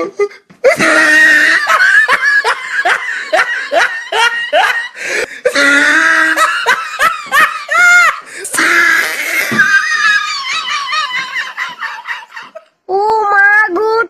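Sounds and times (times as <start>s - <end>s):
person laughing loudly: 0.0s - 12.8s.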